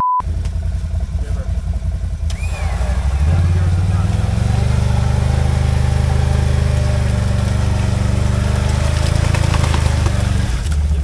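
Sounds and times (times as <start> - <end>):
atv engine running: 0.2 - 11.0.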